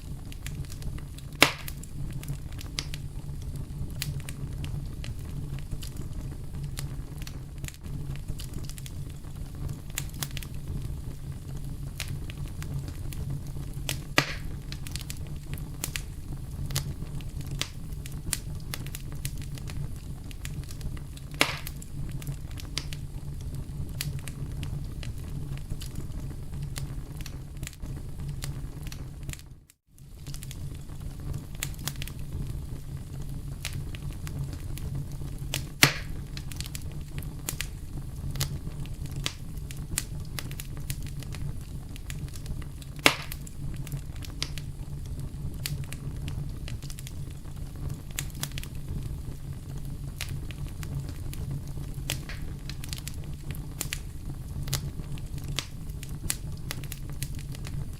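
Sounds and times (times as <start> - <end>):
campfire crackling: 0.0 - 57.9
fire popping: 0.0 - 57.9.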